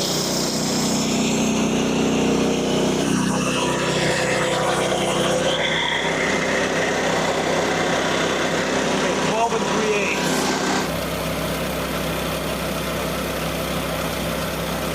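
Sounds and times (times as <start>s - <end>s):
bandsaw sawmill gas engine running: 0.0s - 14.9s.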